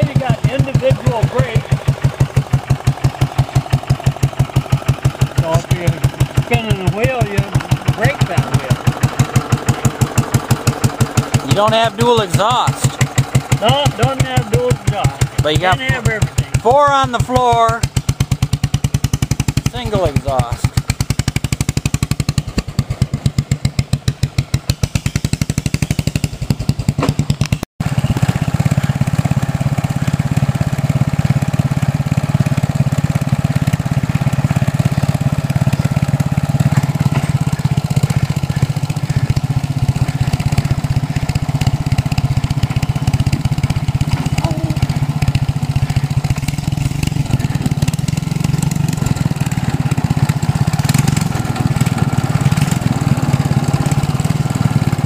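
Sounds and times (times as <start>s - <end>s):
tractor engine exhaust pulses: 0.0s - 55.0s.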